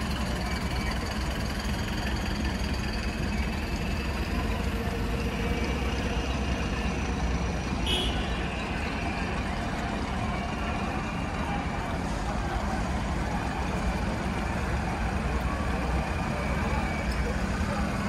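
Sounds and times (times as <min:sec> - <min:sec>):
low rumble of street noise: 0:00.0 - 0:18.0.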